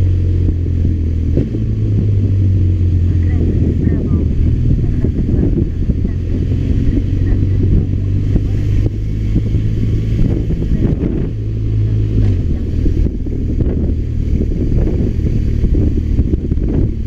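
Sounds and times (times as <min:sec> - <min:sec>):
motorcycle engine running: 0:00.0 - 0:17.0
wind rumble on microphone: 0:00.0 - 0:17.0.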